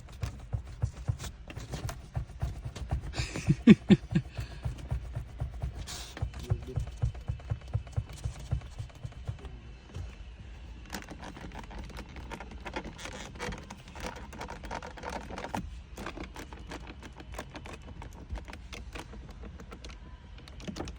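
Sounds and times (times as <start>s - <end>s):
interior trim creaking and ticking: 0.0s - 10.2s, 10.8s - 20.9s.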